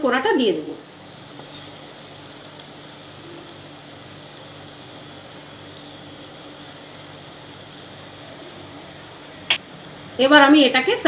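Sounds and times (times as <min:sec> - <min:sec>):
low machine hum with hiss: 0:00.0 - 0:11.0.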